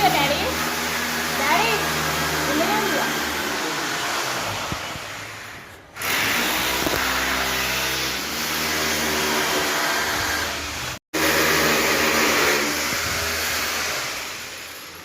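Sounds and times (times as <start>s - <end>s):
power tool motor whirring: 0.1s - 14.9s.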